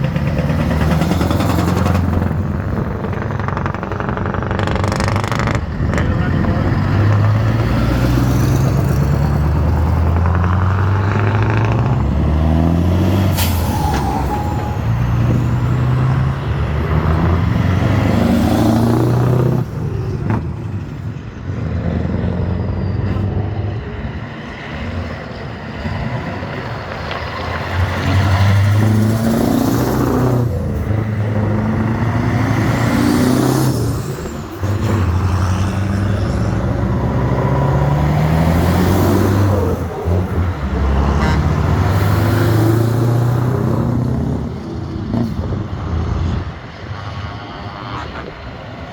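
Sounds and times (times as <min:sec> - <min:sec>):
old trucks driving past: 0:00.0 - 0:48.9.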